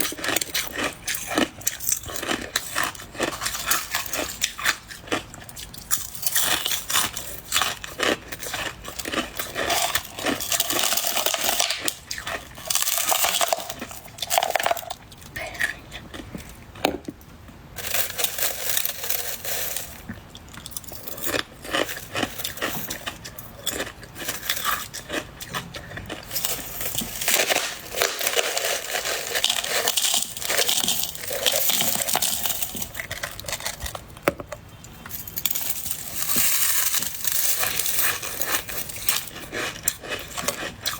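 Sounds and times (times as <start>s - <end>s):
chewing crunchy ice: 0.0s - 16.8s, 17.8s - 34.2s, 35.4s - 40.9s.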